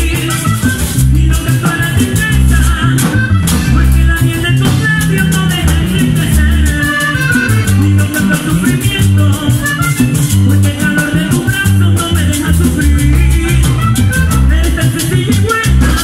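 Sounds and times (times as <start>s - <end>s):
accordion melody: 0.0s - 16.0s
bass line: 0.0s - 16.0s
congas: 0.0s - 16.0s
drum kit: 0.0s - 16.0s.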